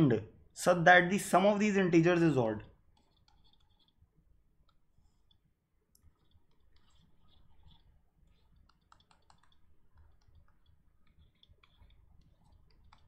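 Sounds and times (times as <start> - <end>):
stylus clicking and scratching: 2.0 - 13.0.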